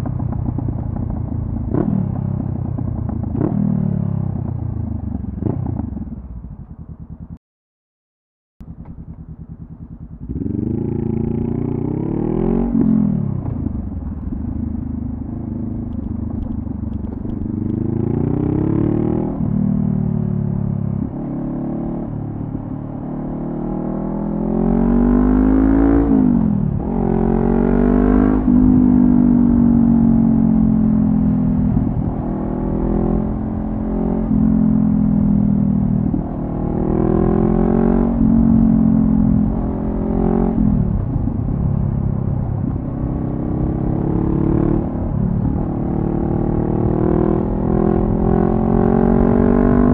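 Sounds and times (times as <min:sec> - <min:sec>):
motorcycle engine revving: 0:00.0 - 0:07.4, 0:08.6 - 0:49.9.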